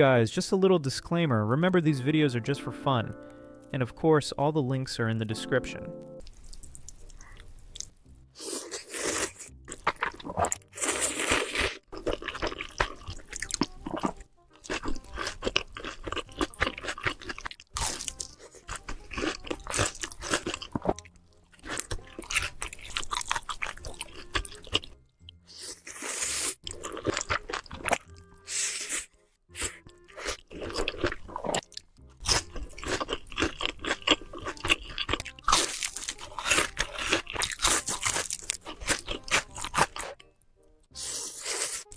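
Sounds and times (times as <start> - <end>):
background music: 0.0 - 41.9
crunching and chewing: 6.2 - 41.9.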